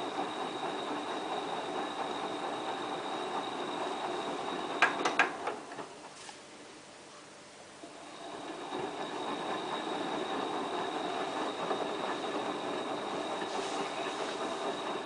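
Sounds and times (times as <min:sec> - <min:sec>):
washing machine running: 0:00.0 - 0:06.7, 0:07.6 - 0:15.0
faint high whine: 0:00.0 - 0:15.0.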